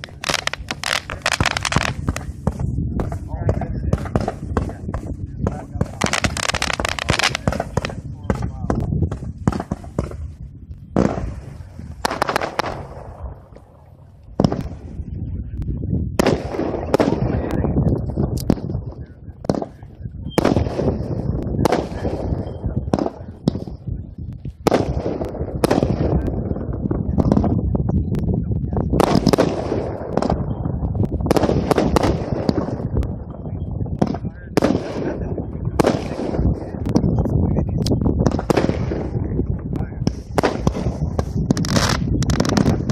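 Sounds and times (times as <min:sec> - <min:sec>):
fireworks bangs: 0:00.0 - 0:15.5, 0:16.1 - 0:27.8, 0:28.7 - 0:42.9
low rumble: 0:00.0 - 0:42.9.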